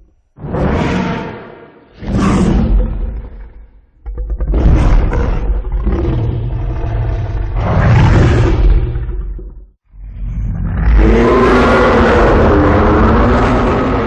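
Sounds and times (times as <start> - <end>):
monster roar: 0.4 - 9.4, 10.0 - 14.0.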